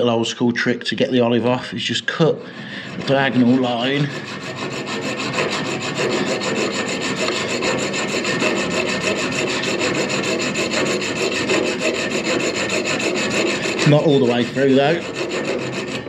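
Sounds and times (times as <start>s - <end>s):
hacksaw cutting metal: 2.6s - 16.0s.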